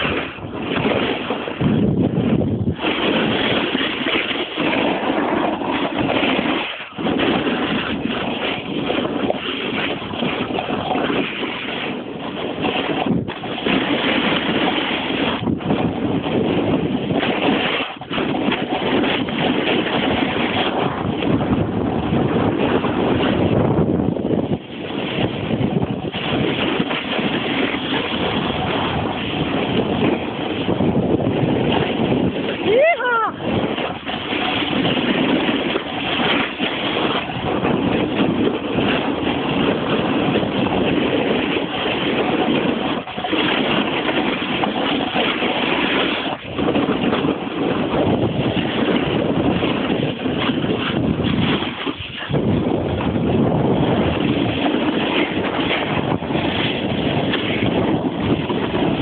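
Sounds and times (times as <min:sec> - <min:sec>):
snowboard scraping over snow: 0:00.0 - 0:59.0
wind rushing over microphone: 0:00.0 - 0:59.0.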